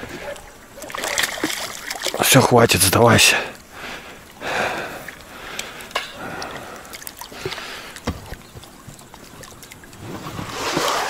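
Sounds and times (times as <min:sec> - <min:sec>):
water splashing beside boat: 0:00.0 - 0:11.0.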